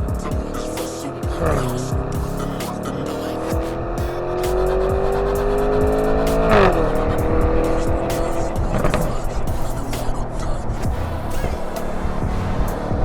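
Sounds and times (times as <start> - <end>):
car engine revving: 0.0 - 13.0
exhaust crackle: 0.0 - 13.0.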